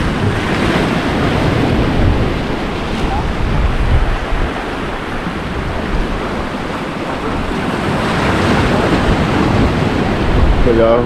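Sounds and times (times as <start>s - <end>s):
waves breaking: 0.0s - 11.0s
wind buffeting microphone: 0.0s - 11.0s.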